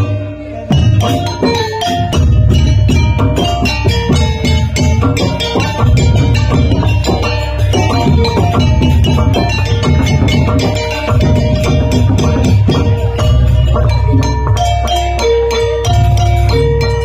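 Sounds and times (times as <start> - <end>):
hand drum strokes: 0.0 - 17.0
struck metallophones ringing: 0.0 - 17.0.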